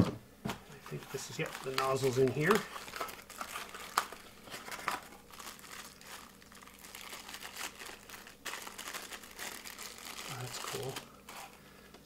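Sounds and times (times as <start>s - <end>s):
plastic bag crinkling: 0.7s - 11.7s
paper rustling and crumpling: 0.8s - 11.6s.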